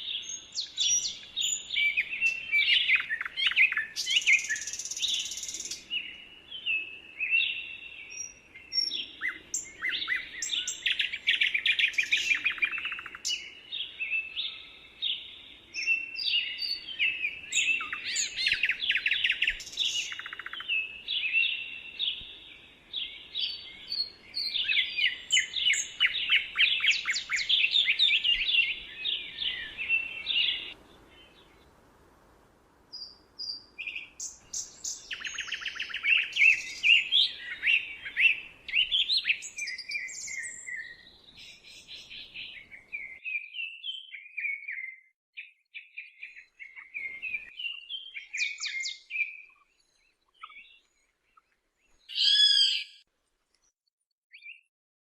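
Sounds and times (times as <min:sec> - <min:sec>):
songbirds chirping and trilling: 0:00.0 - 0:31.9, 0:32.8 - 0:53.7, 0:54.3 - 0:54.7.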